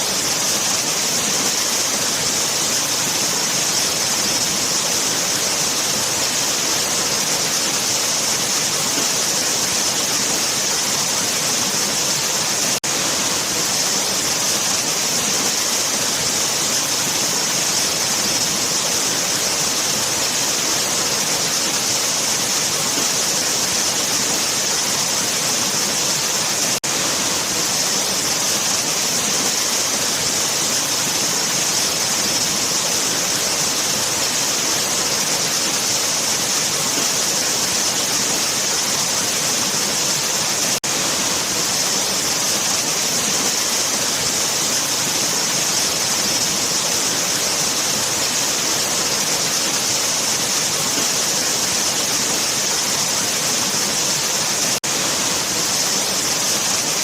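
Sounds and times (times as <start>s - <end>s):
waterfall hissing: 0.0s - 57.0s.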